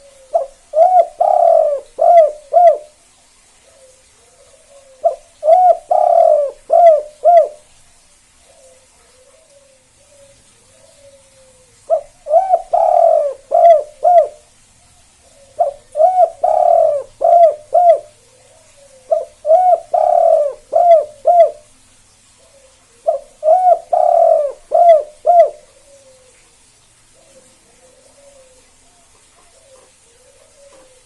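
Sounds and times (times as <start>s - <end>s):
dove cooing: 0.0s - 3.0s, 3.6s - 7.7s, 8.4s - 14.5s, 15.2s - 21.7s, 22.4s - 26.4s, 27.1s - 31.0s.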